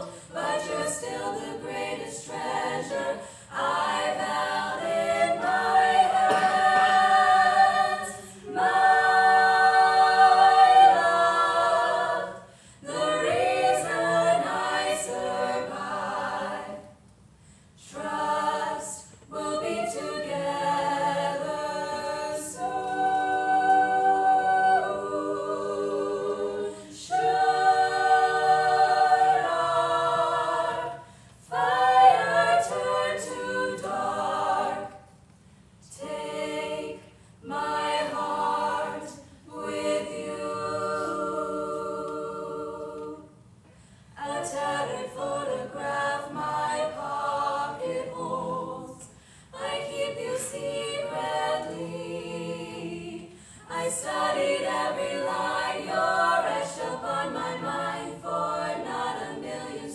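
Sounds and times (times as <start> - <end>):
women singing a cappella: 0.0 - 17.1, 17.8 - 35.2, 35.8 - 59.9.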